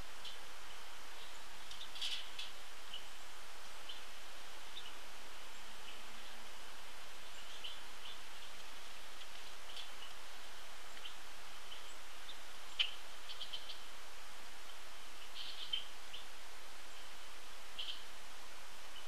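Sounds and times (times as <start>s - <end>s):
birds chirping: 0.0s - 14.0s, 14.6s - 18.2s
steady outdoor hiss: 0.0s - 19.0s.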